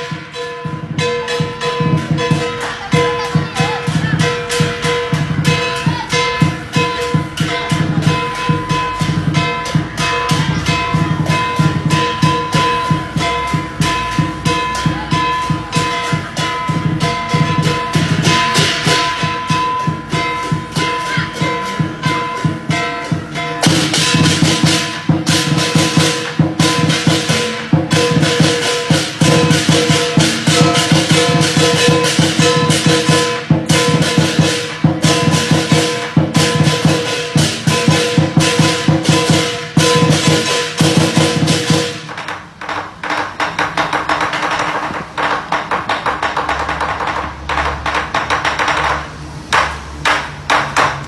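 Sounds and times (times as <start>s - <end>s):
gong ringing: 0.0s - 42.1s
cymbals crashing: 0.0s - 51.0s
drum beaten fast: 0.0s - 51.0s.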